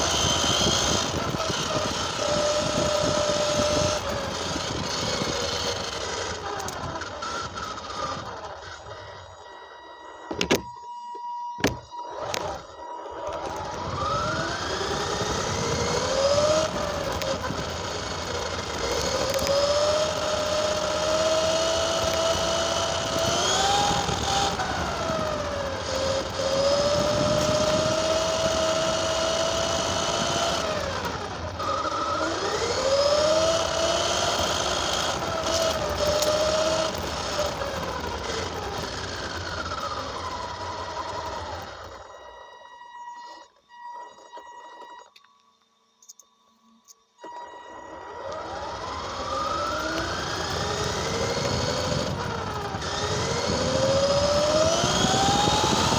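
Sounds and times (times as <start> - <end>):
radio-controlled car motor: 0.0 - 10.8, 11.6 - 45.3, 46.0 - 55.9.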